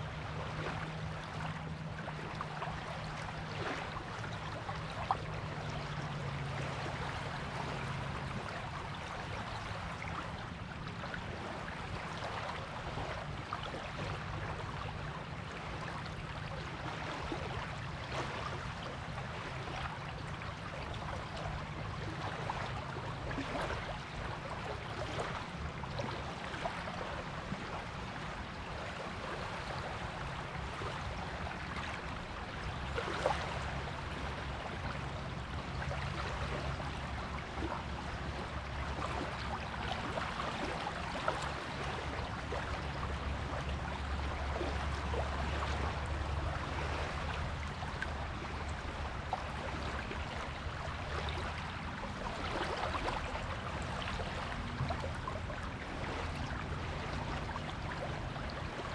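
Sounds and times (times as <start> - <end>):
sea waves washing onto beach: 0.0 - 58.9.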